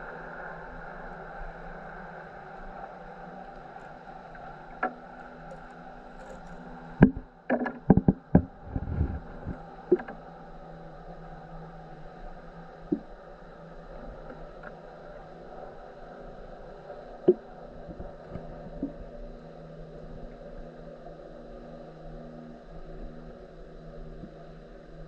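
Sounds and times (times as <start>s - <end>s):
muffled water lapping: 0.0s - 25.0s.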